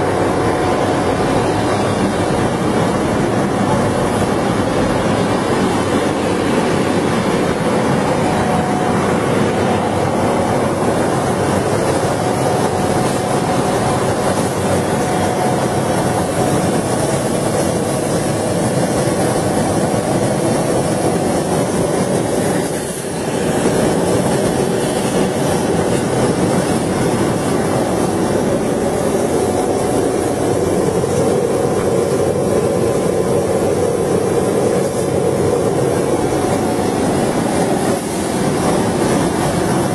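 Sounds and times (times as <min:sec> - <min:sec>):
loud machine running noise: 0:00.0 - 0:39.9.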